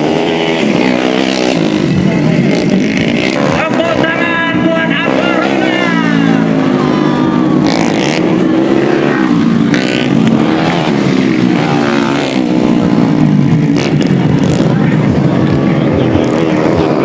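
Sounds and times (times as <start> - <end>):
dirt bike engines revving past: 0.0 - 17.0.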